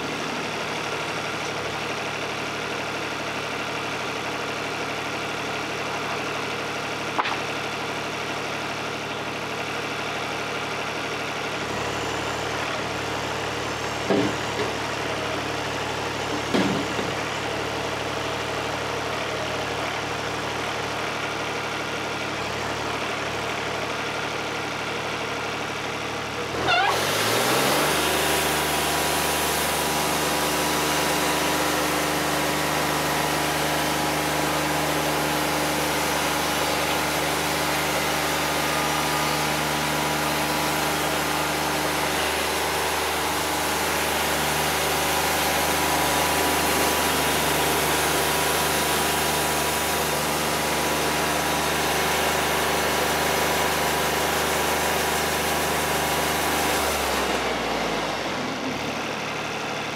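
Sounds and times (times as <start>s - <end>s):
sawmill engine revving: 0.0s - 59.9s.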